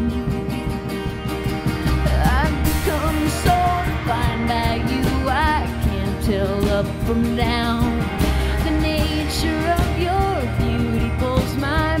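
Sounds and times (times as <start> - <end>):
live band playing indie rock: 0.0 - 12.0.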